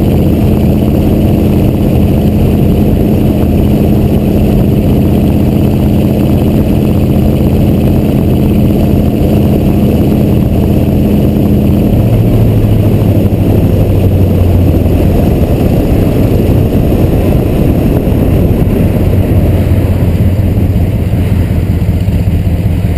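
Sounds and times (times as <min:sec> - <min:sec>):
diesel engine running loud: 0:00.0 - 0:22.9.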